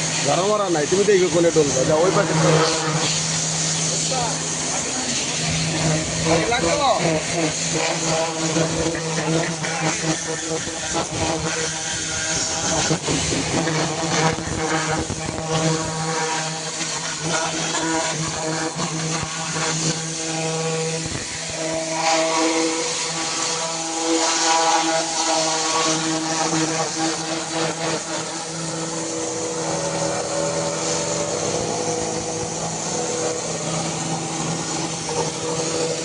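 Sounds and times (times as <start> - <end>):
pressure washer motor hum: 0.0 - 36.0
spray hissing: 0.0 - 36.0.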